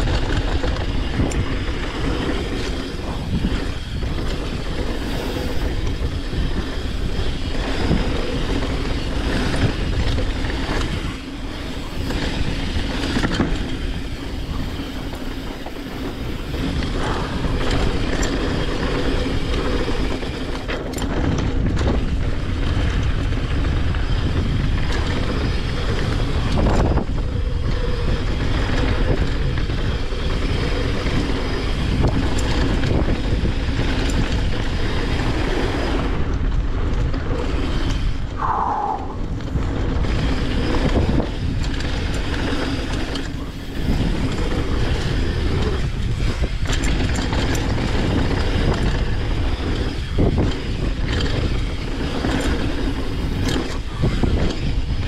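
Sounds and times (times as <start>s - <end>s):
bike rattling over bumps: 0.0s - 38.4s, 39.0s - 55.0s
wind on microphone: 0.0s - 55.0s.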